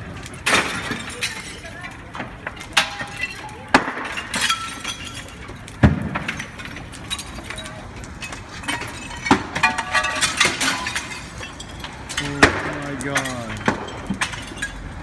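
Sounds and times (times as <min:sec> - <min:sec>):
fire cracking: 0:00.0 - 0:15.0
glass clinking and breaking: 0:00.0 - 0:15.0.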